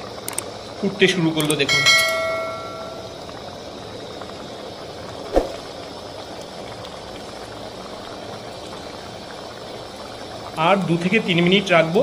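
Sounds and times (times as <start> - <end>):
curry bubbling at a boil: 0.0 - 12.0.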